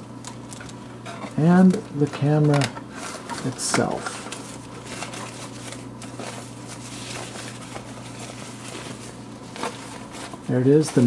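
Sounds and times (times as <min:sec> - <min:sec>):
low electrical hum: 0:00.0 - 0:11.0
protective wrap crinkling: 0:01.6 - 0:11.0.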